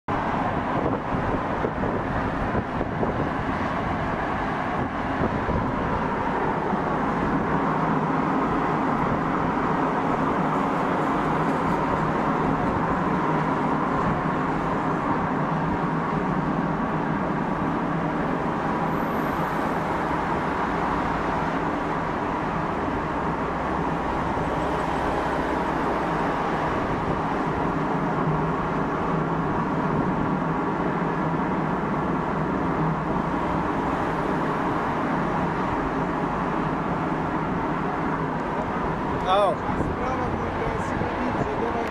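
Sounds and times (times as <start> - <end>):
car engines running: 0.1 - 41.9
tyres on asphalt: 0.1 - 41.9.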